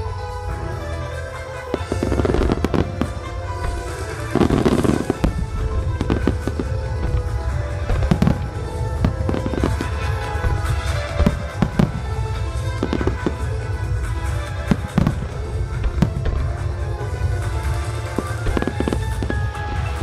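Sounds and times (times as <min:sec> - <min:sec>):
fireworks bursts and crackles: 0:00.0 - 0:20.0
music playing: 0:00.0 - 0:20.0.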